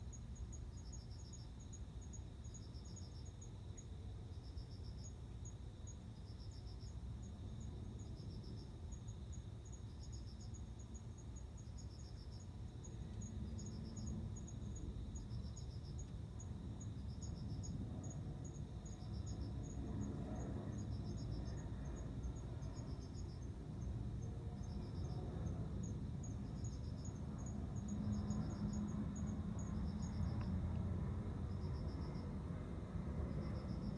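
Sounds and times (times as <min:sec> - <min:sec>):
cricket chirping pulse trains: 0:00.0 - 0:33.9
fast high cricket chirps: 0:00.0 - 0:33.9
low background rumble: 0:00.2 - 0:33.9.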